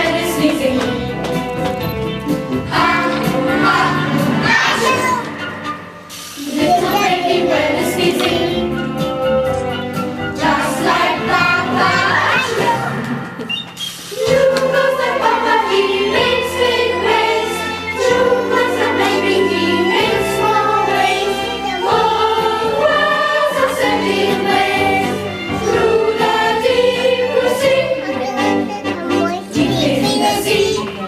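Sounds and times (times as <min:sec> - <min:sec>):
small children singing: 0:00.0 - 0:01.2, 0:02.7 - 0:05.4, 0:06.4 - 0:08.8, 0:10.4 - 0:13.0, 0:14.1 - 0:31.0
musical accompaniment: 0:00.0 - 0:31.0.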